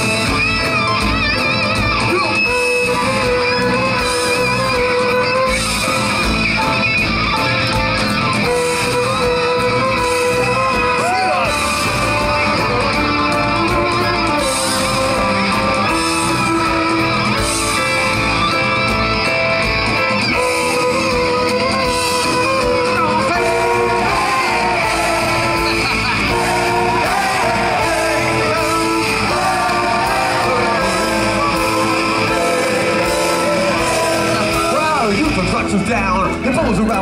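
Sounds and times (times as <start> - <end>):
live band playing: 0.0 - 37.0.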